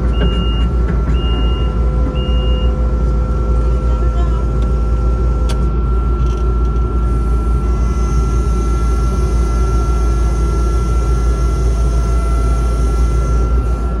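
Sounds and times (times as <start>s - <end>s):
diesel engine running: 0.0s - 14.0s
thin steady whine: 0.0s - 14.0s.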